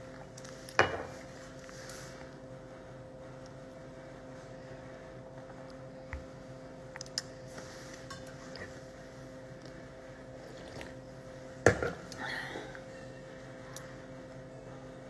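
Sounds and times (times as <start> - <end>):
room tone hum: 0.0 - 15.0.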